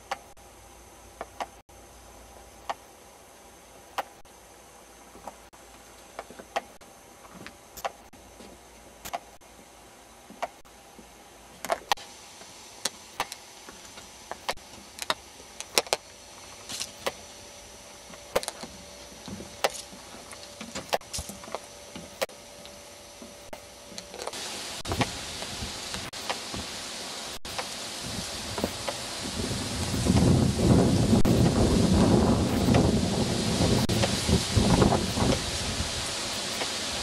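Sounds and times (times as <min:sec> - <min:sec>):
steady hiss: 0:00.0 - 0:37.0.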